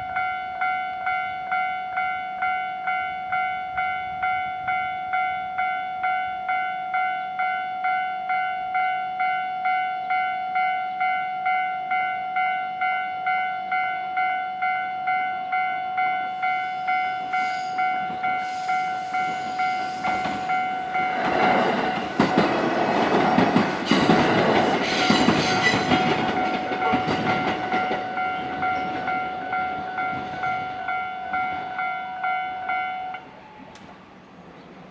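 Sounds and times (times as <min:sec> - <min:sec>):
level crossing warning bell: 0:00.0 - 0:33.8
train passing: 0:00.0 - 0:34.9.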